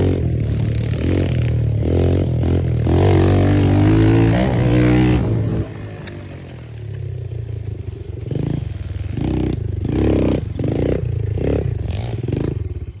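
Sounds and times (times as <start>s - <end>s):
small motorbike engine revving: 0.0s - 13.0s.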